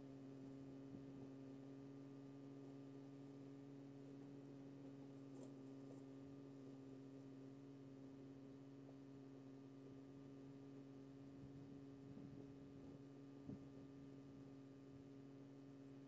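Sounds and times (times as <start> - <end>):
faint steady low hum: 0.0 - 16.0.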